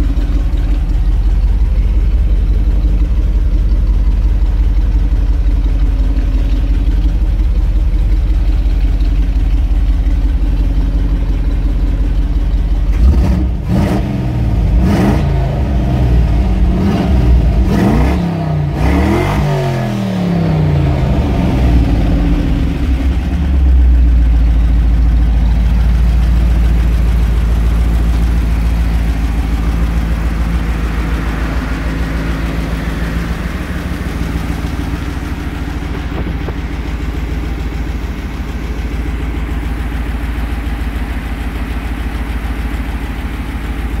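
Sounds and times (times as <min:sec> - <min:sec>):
truck engine idling: 0:00.0 - 0:44.0.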